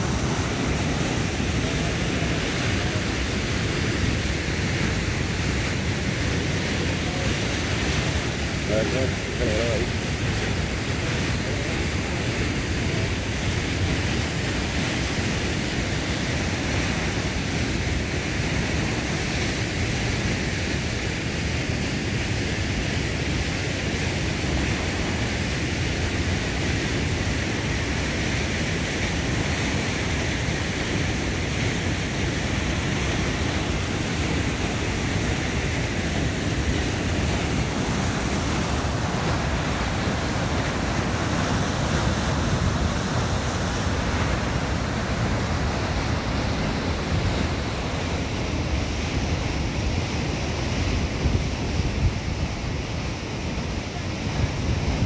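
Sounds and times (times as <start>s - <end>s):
waterfall rushing roar: 0.0s - 55.0s.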